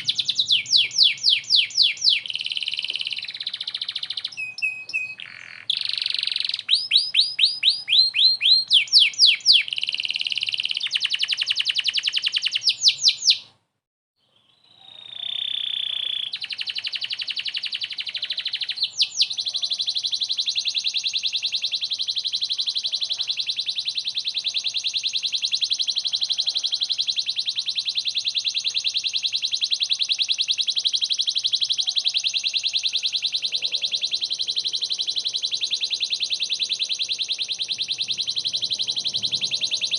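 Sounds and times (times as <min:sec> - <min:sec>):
canary singing trills: 0:00.0 - 0:13.5, 0:14.2 - 0:39.9.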